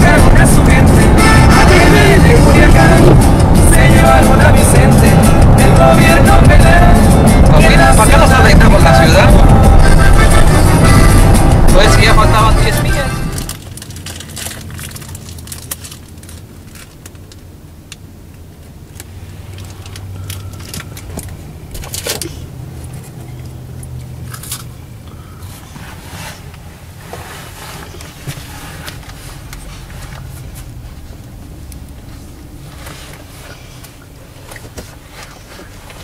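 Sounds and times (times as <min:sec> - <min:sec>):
car engine and road hum: 0:00.0 - 0:36.0.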